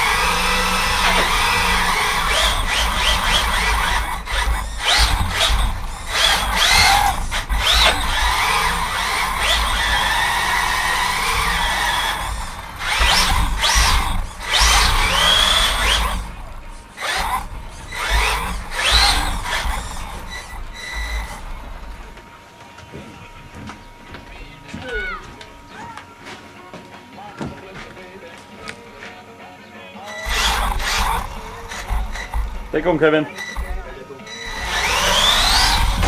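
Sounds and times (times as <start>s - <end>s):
electric motor whining: 0.0s - 26.3s, 30.0s - 36.0s
tyres squealing on smooth floor: 0.0s - 26.4s, 30.0s - 36.0s.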